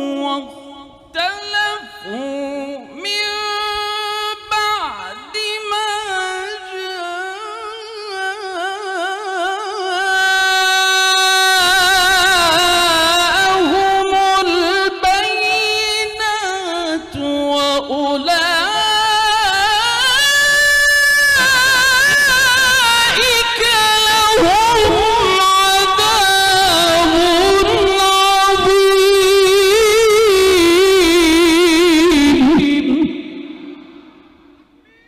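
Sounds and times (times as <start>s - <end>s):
man reciting melodically: 0.0s - 35.0s.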